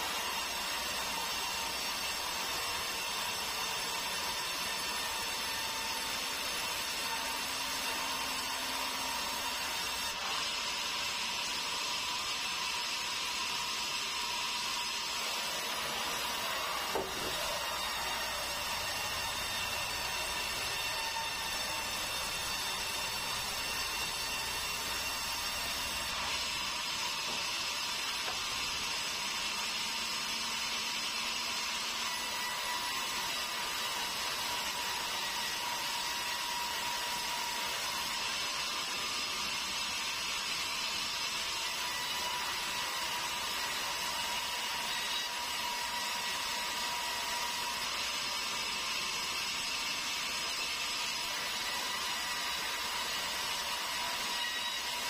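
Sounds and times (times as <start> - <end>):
sawmill saw cutting timber: 0.0 - 55.0.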